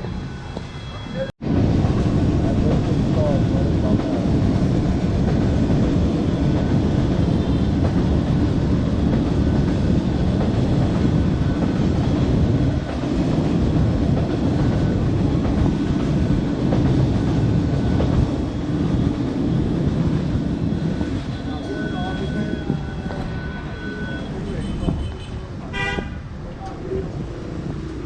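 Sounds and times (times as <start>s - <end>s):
train passing rumble: 0.0s - 28.0s.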